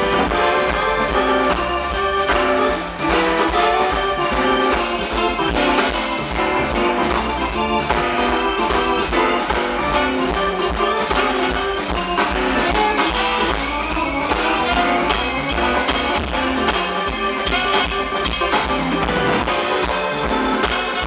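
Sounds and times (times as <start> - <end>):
blues band playing live: 0.0 - 21.0
saxophone lead: 0.0 - 21.0.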